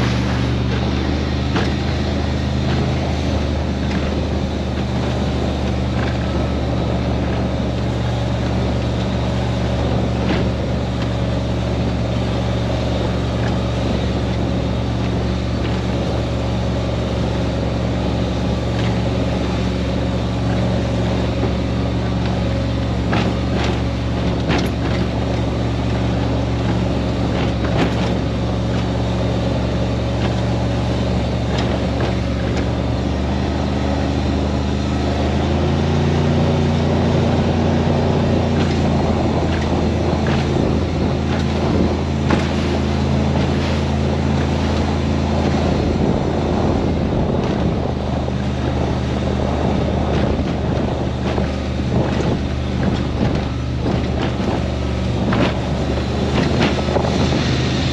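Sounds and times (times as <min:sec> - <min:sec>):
powerboat engine running: 0:00.0 - 0:57.9
water noise: 0:00.0 - 0:57.9
wind noise: 0:00.0 - 0:57.9.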